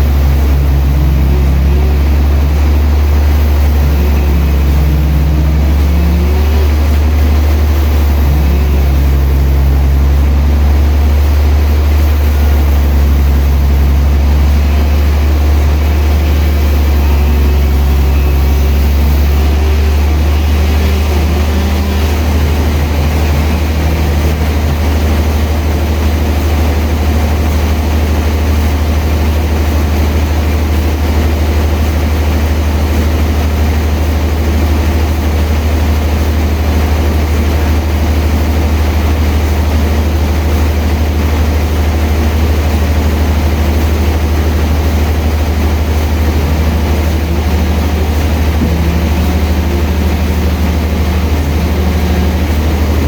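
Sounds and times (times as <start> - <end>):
faint wandering pitched tones: 0.0 - 31.6, 41.0 - 53.0
sawmill machinery droning: 0.0 - 53.0.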